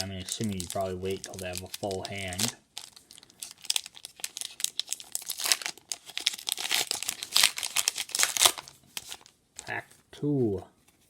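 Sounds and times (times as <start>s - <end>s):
wrapper crackling and ripping: 0.0s - 9.3s.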